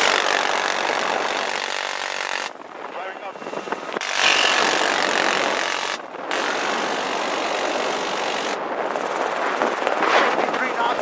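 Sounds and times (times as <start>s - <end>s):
helicopter rotor and turbine: 0.0s - 11.0s.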